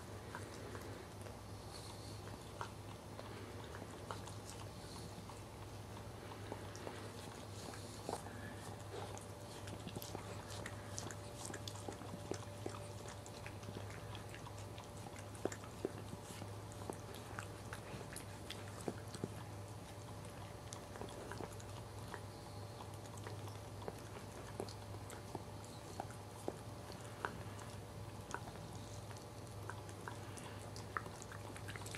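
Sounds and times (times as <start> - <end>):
dog licking and chewing: 0.0 - 31.9
steady low hum: 0.0 - 31.9.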